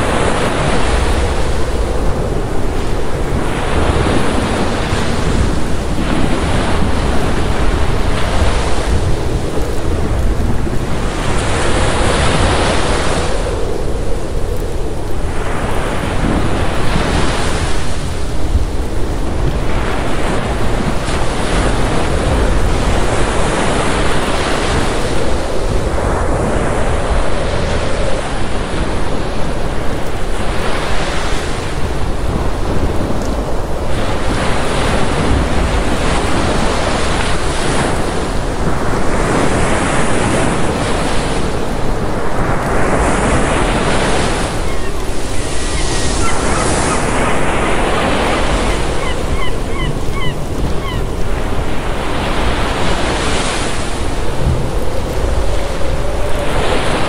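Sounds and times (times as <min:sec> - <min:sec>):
ocean surf breaking: 0:00.0 - 0:57.0
wind rumble on microphone: 0:00.0 - 0:57.0.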